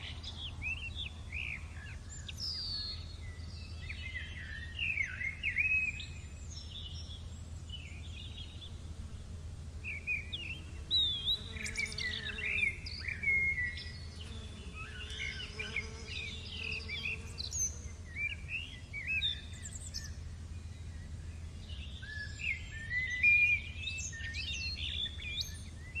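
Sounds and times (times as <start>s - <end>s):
birds chirping and singing: 0.0s - 9.0s, 9.8s - 20.9s, 21.6s - 26.0s
steady low hum: 0.0s - 25.9s.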